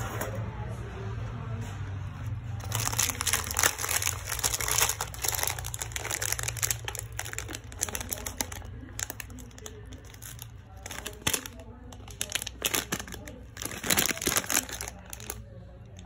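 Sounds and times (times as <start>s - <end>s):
plastic packaging crinkling: 2.5s - 16.0s.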